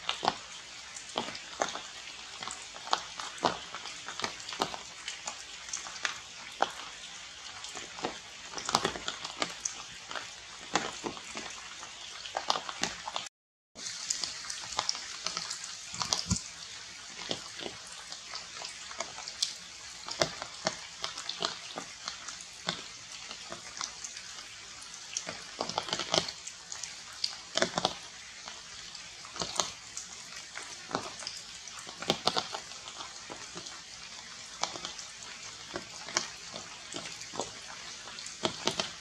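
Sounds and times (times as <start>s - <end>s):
rain dripping on foliage: 0.0s - 39.0s.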